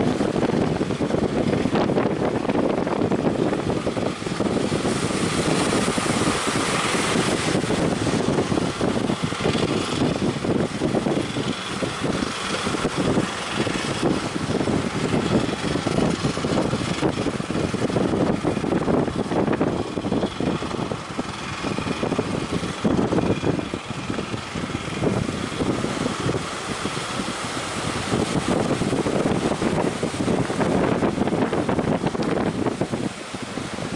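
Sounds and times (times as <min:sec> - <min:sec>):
boat engine running: 0:00.0 - 0:33.9
waves washing: 0:00.0 - 0:33.9
wind buffeting microphone: 0:00.0 - 0:33.9.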